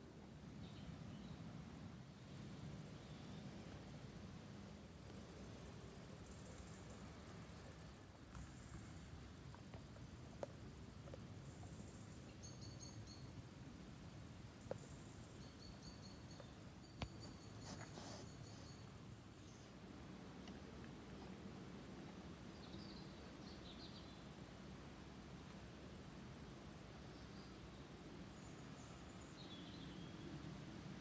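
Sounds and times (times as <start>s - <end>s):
insects chirring: 2.0s - 31.0s.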